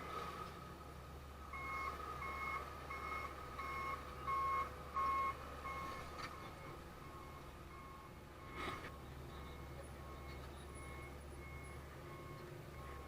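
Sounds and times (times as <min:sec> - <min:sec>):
excavator warning alarm beeping: 0:01.5 - 0:13.0.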